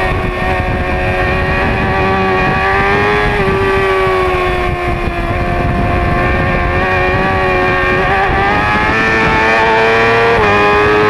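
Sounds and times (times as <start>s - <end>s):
motorcycle engine at high revs: 0.0s - 11.0s
wind rush: 0.0s - 11.0s.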